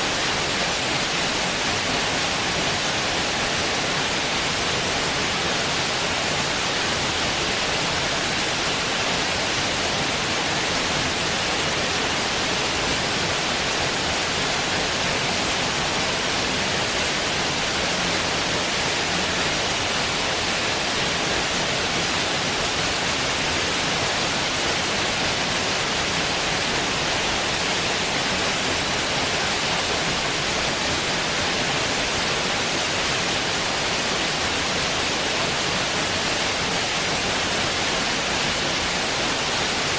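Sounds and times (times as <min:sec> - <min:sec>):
steady broadband hiss: 0:00.0 - 0:39.9.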